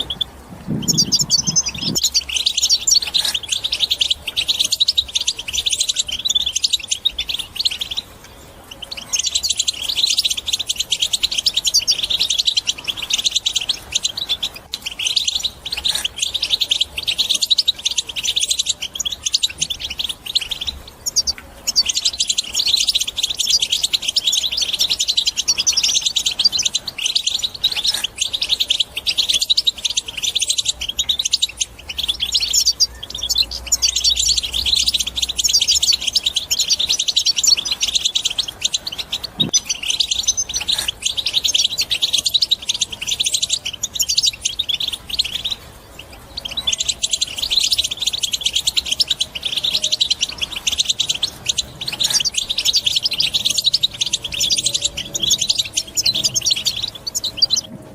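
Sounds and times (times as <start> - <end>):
goldfinch twittering song: 0.0 - 57.9.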